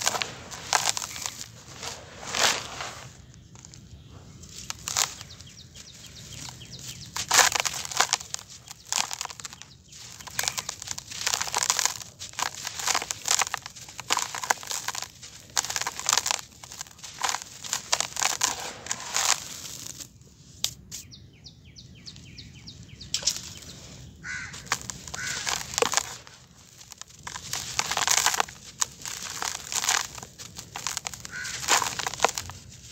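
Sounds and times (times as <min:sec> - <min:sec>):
cement clumps crunching by hand: 0:00.0 - 0:20.8, 0:23.0 - 0:32.9.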